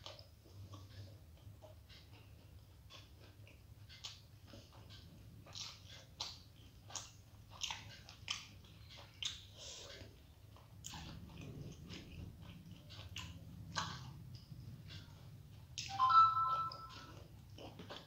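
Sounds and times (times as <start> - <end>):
wet chewing mouth sounds: 0.0 - 16.0, 16.8 - 18.0
faint low hum: 0.0 - 18.0.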